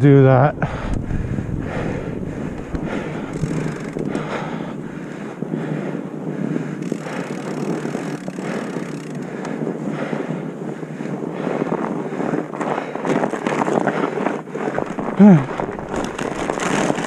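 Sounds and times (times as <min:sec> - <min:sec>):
bike tyres on dirt: 0:00.0 - 0:17.0
wind rushing over microphone: 0:00.0 - 0:17.0
bike rattling and knocking: 0:00.6 - 0:05.8, 0:06.4 - 0:17.0.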